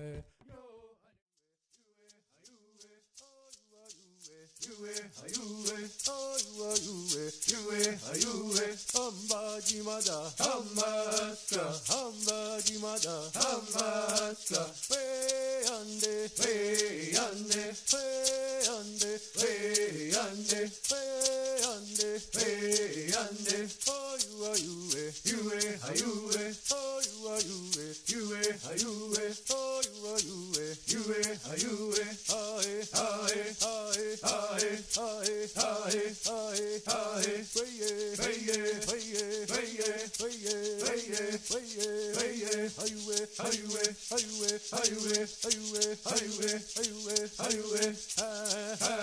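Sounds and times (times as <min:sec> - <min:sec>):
rattle shaken in steady beat: 0:01.6 - 0:49.0
person singing chant-like melody: 0:04.6 - 0:49.0.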